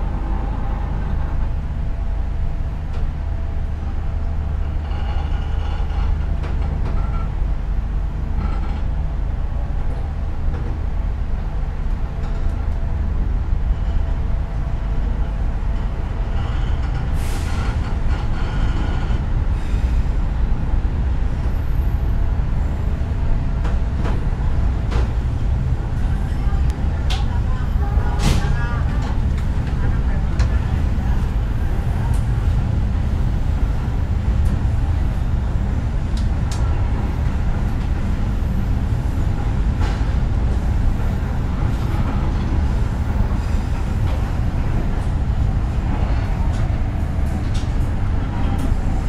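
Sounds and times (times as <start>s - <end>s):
passenger train rumble: 0.0s - 49.0s.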